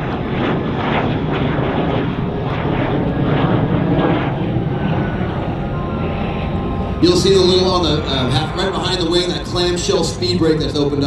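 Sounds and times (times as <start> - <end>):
jet aircraft passing overhead: 0.0 - 11.0.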